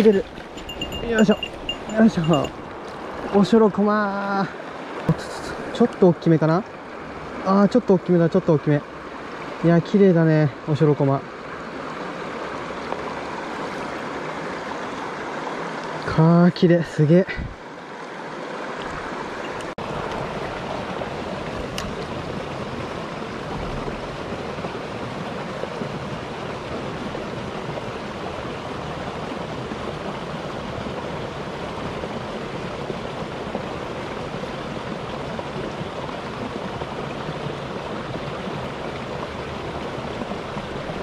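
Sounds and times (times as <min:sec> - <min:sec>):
river rushing over stones: 0:00.0 - 0:41.0.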